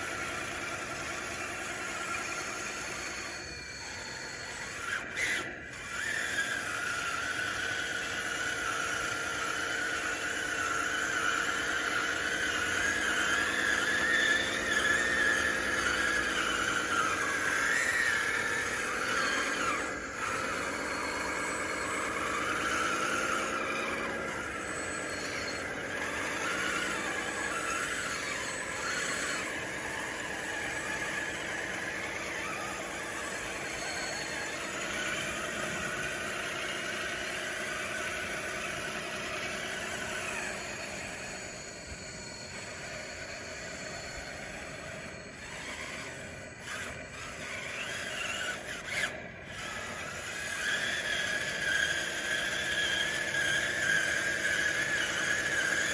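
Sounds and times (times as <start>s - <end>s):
toy bulldozer drive whining: 0.0s - 55.9s.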